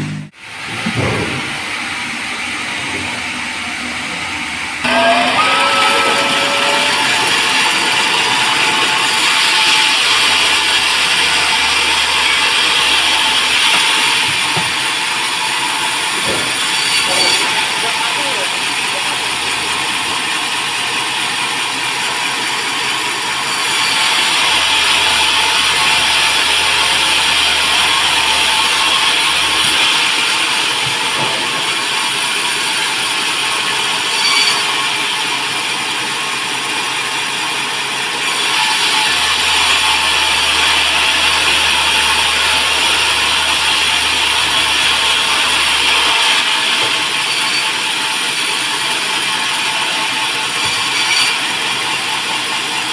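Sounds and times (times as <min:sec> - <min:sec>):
band saw cutting wood: 0:04.8 - 0:52.9.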